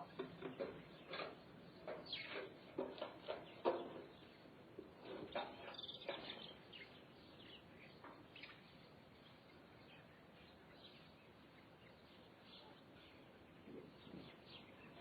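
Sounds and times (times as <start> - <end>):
background hiss: 0.0 - 15.0
small birds chirping: 0.0 - 15.0.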